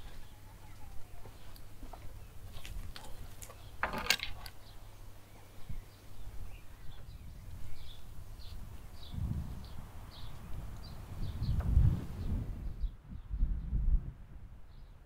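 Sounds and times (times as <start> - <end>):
birds chirping faintly: 0.0 - 13.7.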